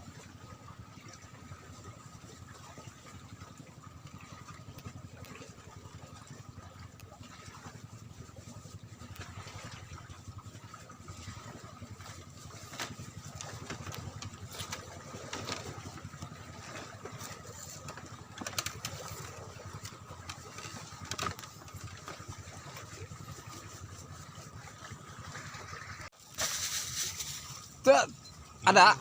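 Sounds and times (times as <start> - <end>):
small engine chugging: 0.0 - 29.0.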